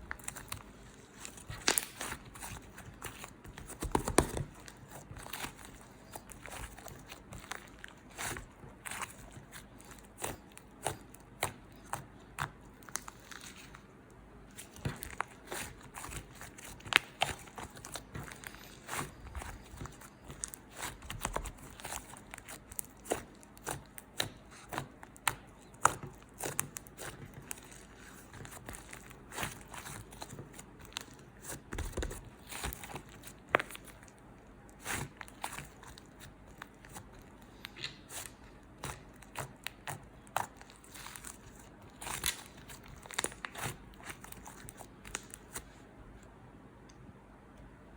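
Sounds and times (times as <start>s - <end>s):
crinkly material crackling and tearing: 0.0s - 11.9s, 14.5s - 45.7s.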